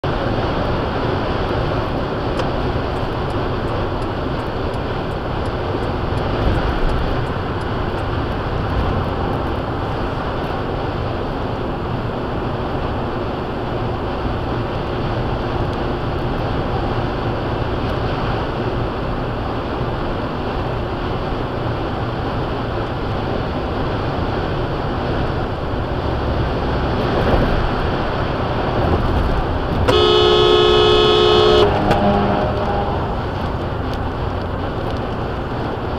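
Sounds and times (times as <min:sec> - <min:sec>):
low rumble of tyres: 0:00.0 - 0:35.9
road and wind noise in vehicle: 0:00.0 - 0:35.9.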